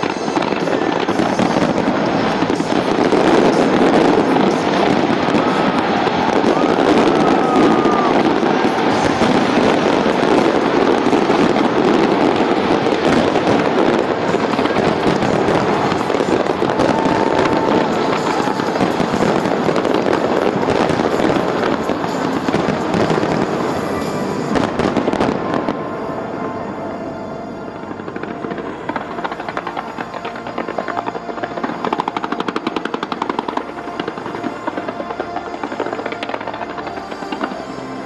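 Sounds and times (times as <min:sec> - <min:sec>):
fireworks crackling and popping: 0:00.0 - 0:38.0.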